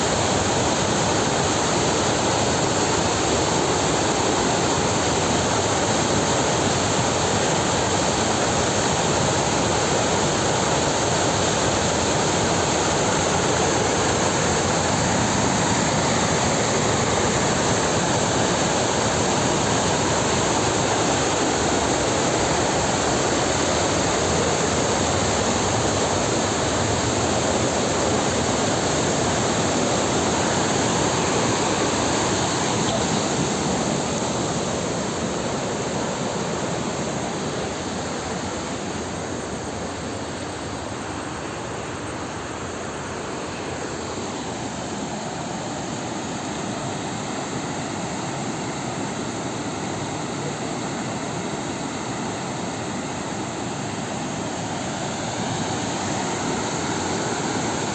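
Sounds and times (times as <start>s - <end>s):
floodwater rushing: 0.0s - 57.9s.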